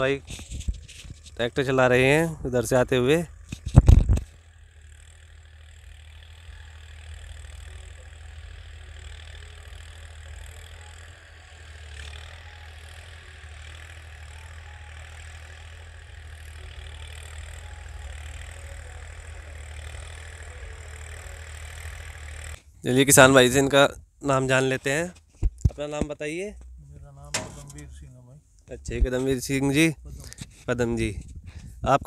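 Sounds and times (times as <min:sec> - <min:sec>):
distant tractor diesel engine: 0:00.0 - 0:31.7.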